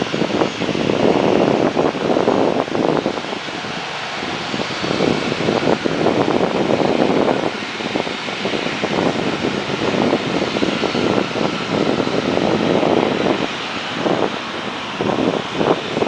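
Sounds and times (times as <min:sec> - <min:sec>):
distant jet engines humming: 0:00.0 - 0:16.0
wind buffeting microphone: 0:00.0 - 0:16.0.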